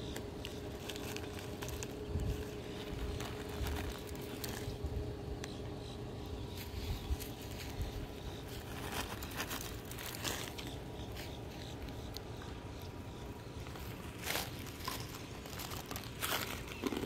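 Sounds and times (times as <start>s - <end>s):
dry leaves and grass crunching: 0.0s - 17.0s
low steady rumble: 0.0s - 17.0s.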